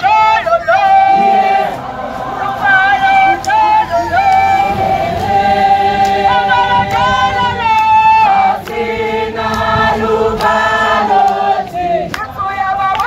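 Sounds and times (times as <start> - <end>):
group singing long notes: 0.0 - 13.0.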